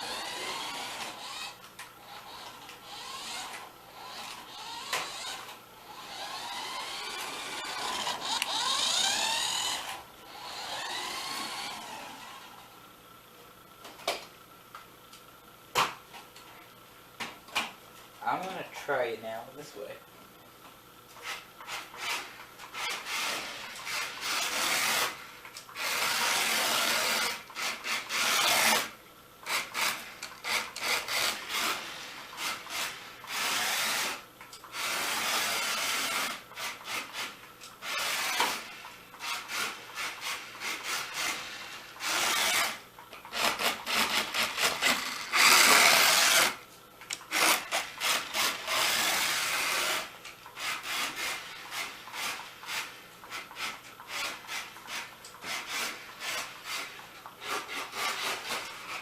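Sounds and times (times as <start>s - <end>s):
toy car electric motor whirring: 0.0s - 12.8s, 21.1s - 59.0s.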